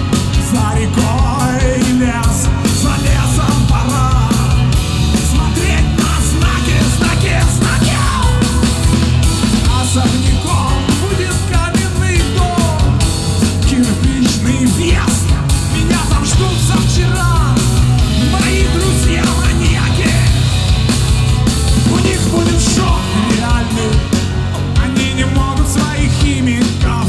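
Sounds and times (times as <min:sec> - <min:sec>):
person singing: 0:00.0 - 0:20.8, 0:21.8 - 0:27.0
heavy rock band playing: 0:00.0 - 0:27.0.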